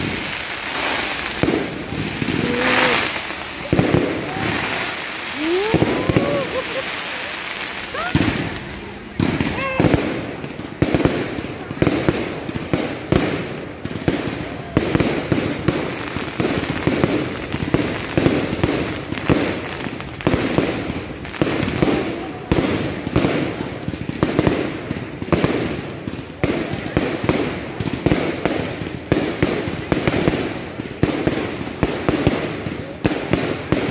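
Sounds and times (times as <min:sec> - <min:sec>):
fireworks bursting with sharp bangs: 0:00.0 - 0:33.9
fireworks crackling: 0:00.0 - 0:33.9.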